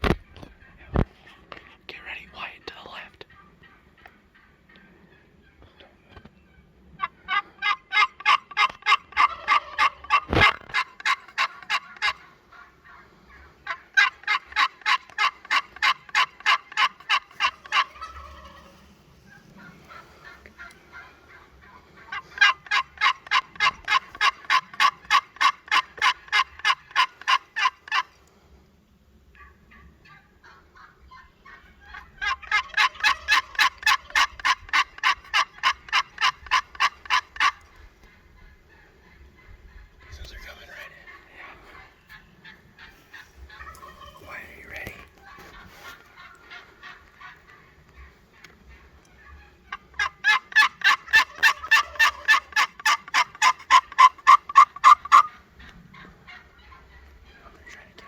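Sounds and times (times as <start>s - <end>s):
turkey yelping: 6.2s - 28.2s, 29.4s - 57.6s.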